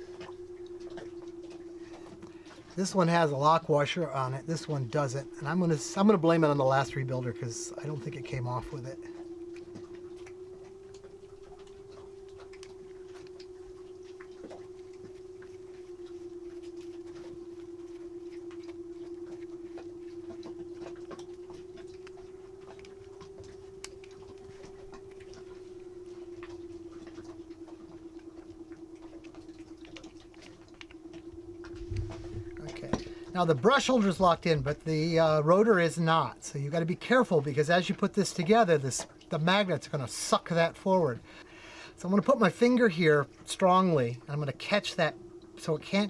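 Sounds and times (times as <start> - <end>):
wavering hum: 0.0 - 46.0.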